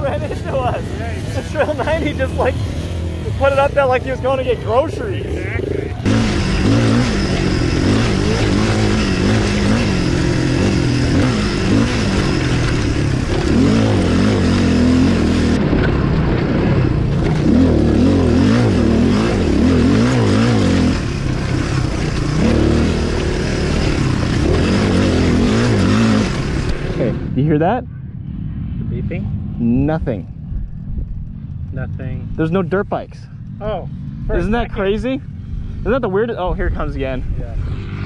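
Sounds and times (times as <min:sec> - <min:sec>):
motorcycle engine revving: 0:00.0 - 0:38.0
wind and riding noise: 0:00.0 - 0:38.0.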